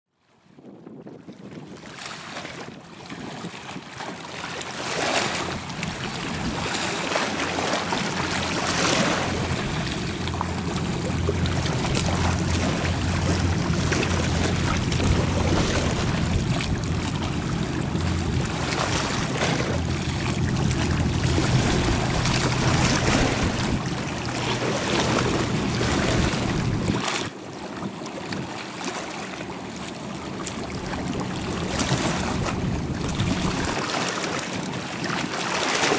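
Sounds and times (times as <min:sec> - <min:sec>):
water rushing past hull: 0:00.4 - 0:35.9
wind gusting on microphone: 0:00.6 - 0:04.0, 0:05.0 - 0:27.3, 0:30.8 - 0:35.4
ferry engine drone: 0:04.2 - 0:27.8, 0:28.5 - 0:34.4.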